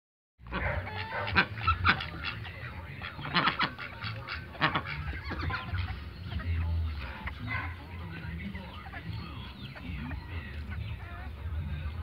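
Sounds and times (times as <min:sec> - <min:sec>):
goose honking: 0:00.4 - 0:12.0.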